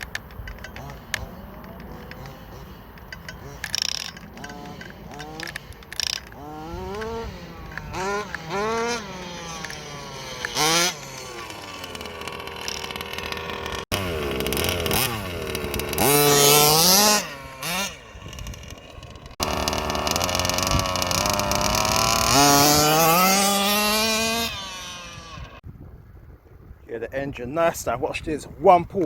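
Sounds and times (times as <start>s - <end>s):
two-stroke engine revving: 0.0s - 25.6s.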